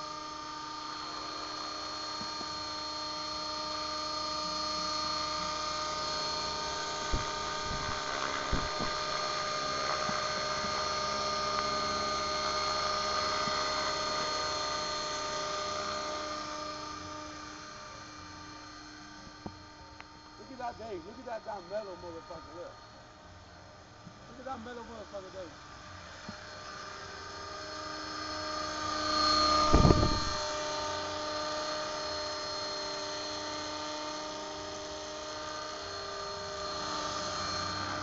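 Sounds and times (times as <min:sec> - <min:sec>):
model helicopter whine: 0:00.0 - 0:38.0.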